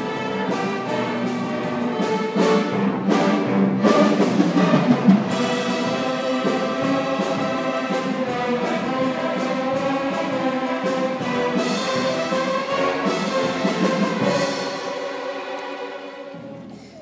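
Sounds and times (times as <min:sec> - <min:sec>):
string orchestra playing: 0:00.0 - 0:17.0.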